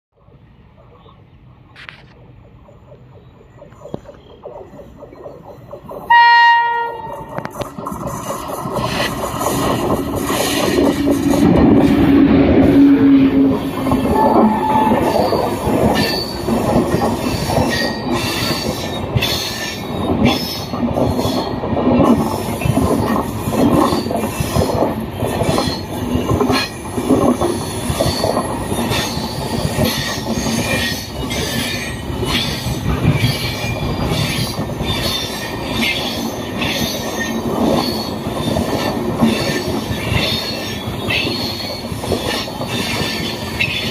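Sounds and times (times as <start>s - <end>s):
electric locomotive passing: 0.2s - 43.9s
passenger coaches rumbling: 0.2s - 43.9s
wheels clacking over rail joints: 1.8s - 43.9s.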